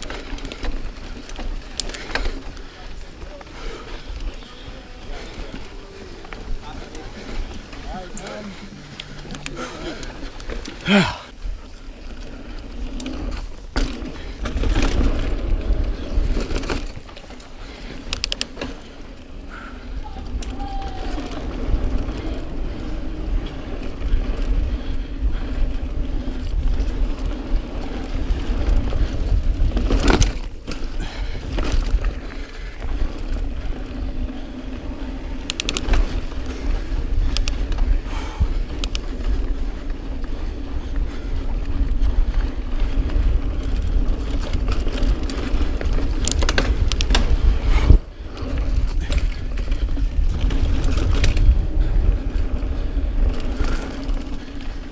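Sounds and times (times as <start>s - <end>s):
wind and tyres on dirt: 0.0s - 54.9s.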